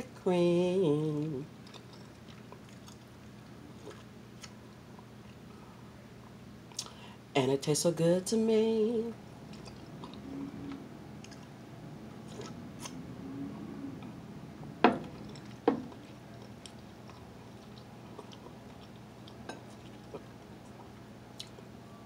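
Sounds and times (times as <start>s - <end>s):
soft eating sounds: 0.0s - 7.3s, 8.3s - 22.0s.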